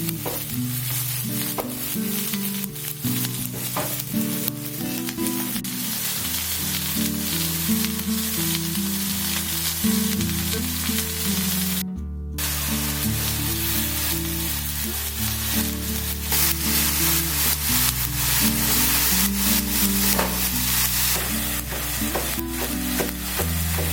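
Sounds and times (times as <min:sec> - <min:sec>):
food sizzling in a pan: 0:00.0 - 0:11.8, 0:12.4 - 0:23.9.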